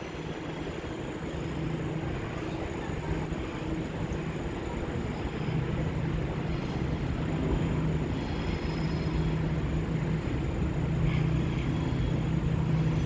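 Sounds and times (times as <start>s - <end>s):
station noise: 0.0s - 13.0s
train mechanical hum: 0.0s - 13.0s.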